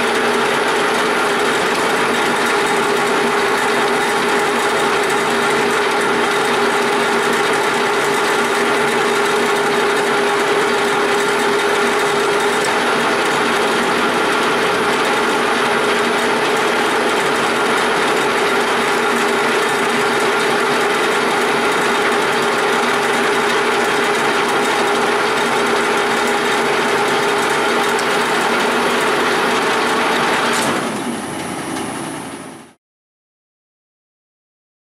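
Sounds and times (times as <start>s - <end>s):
lathe whirring with gear whine: 0.0s - 32.7s.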